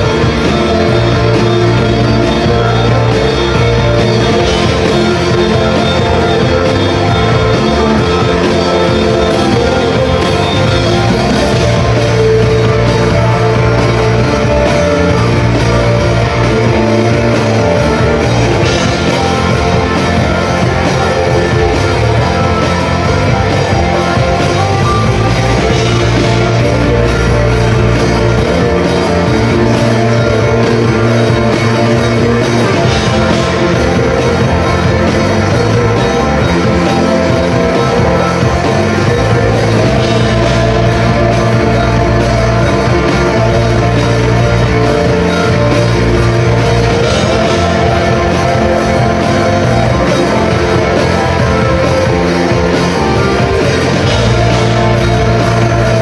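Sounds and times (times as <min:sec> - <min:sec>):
electric guitar: 0:00.0 - 0:56.0
steady drum beat: 0:00.0 - 0:56.0.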